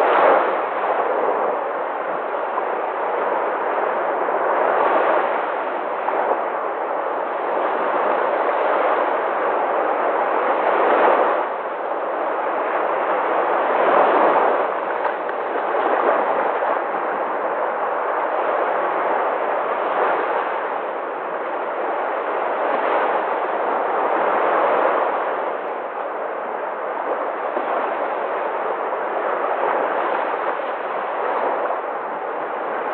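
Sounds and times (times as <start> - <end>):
sea waves washing in: 0.0 - 32.9.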